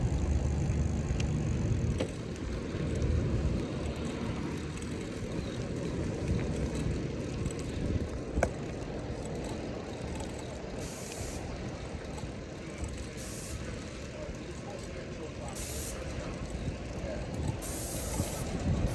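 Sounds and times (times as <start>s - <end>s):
street traffic rumble: 0.0s - 18.9s.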